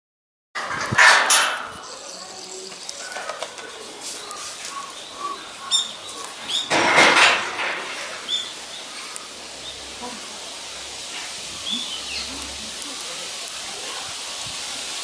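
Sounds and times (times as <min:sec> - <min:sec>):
small birds chirping: 0:01.7 - 0:15.0.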